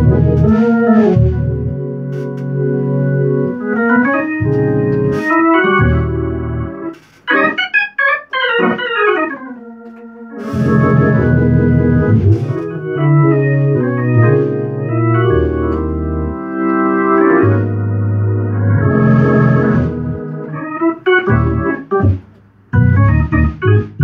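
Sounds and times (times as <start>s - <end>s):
organ playing gospel chords: 0.0s - 24.0s.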